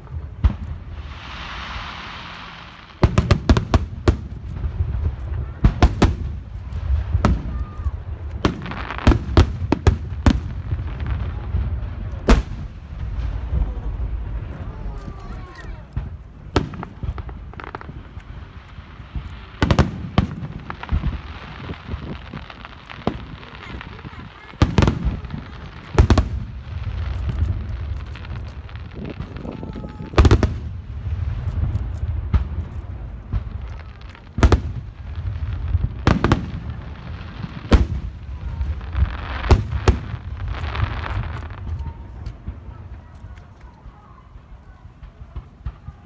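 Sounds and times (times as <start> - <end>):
steady low rumble: 0.0 - 43.8
fireworks bangs and booms: 0.0 - 46.0
fireworks crackling: 0.0 - 46.0.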